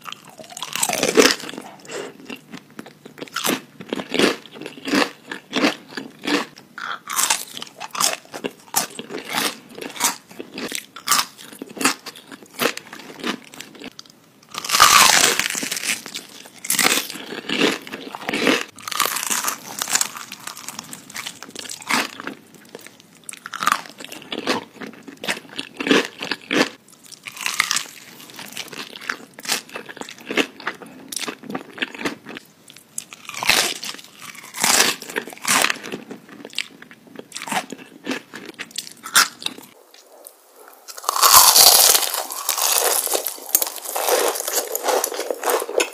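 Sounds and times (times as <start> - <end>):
crunching fried chicken: 0.0 - 40.3, 40.9 - 45.9
chewing crunches: 0.0 - 45.9.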